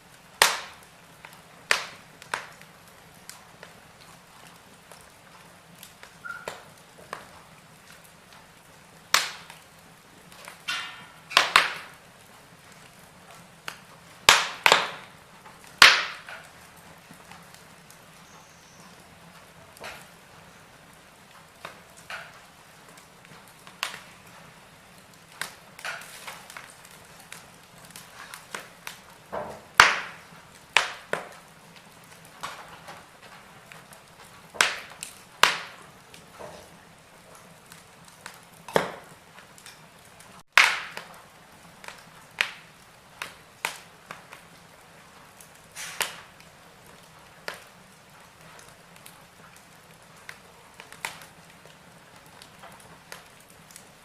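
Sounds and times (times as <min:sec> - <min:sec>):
faint steady hiss: 0:00.0 - 0:54.0
wood fire crackling: 0:00.0 - 0:54.0.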